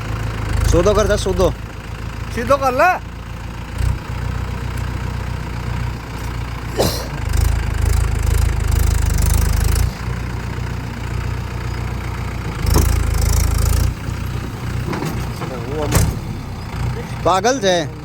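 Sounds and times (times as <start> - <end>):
tractor diesel engine revving: 0.0 - 18.0.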